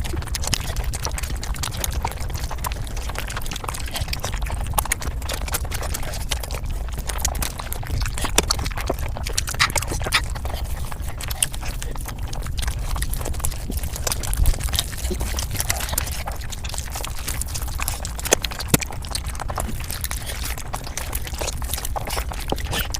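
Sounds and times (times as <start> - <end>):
sped up chewing and crunching: 0.0 - 22.9.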